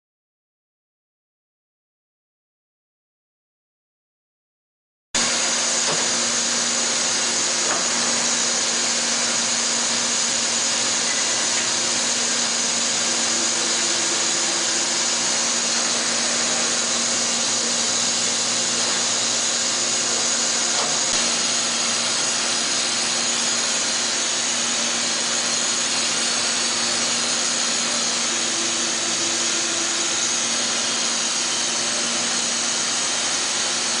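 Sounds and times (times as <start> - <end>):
machine whir and hiss: 5.2 - 34.0.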